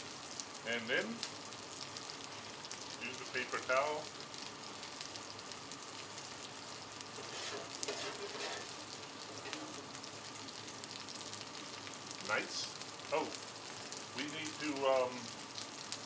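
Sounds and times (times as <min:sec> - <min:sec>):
chicken wings sizzling on griddle: 0:00.0 - 0:16.0.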